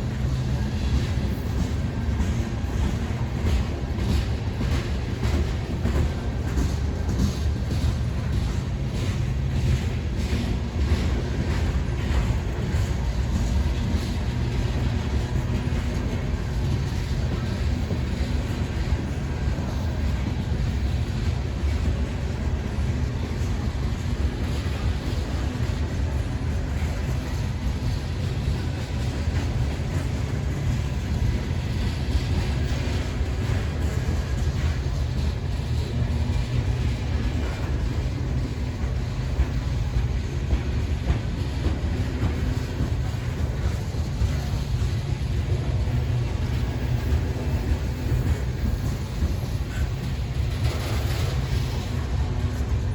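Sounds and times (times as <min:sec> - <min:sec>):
freight train rumbling past: 0:00.0 - 0:52.9
wheels clicking over rail joints: 0:00.0 - 0:52.9.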